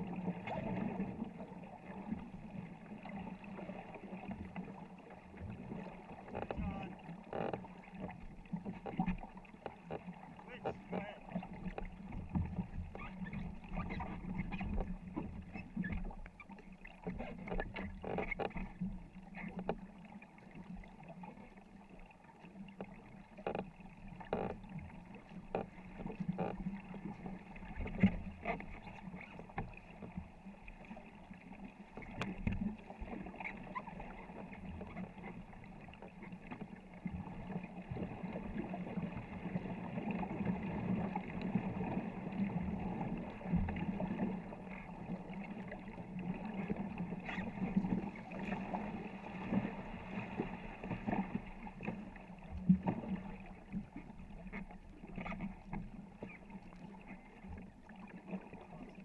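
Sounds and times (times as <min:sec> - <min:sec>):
paddle strokes splashing water: 0:00.0 - 0:59.0
water rushing along hull: 0:00.0 - 0:59.0.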